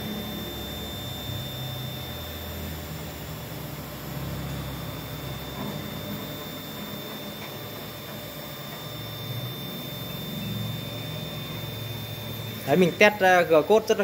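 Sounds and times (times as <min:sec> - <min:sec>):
high whine: 0:00.0 - 0:14.0
stepper motors humming: 0:00.0 - 0:14.0.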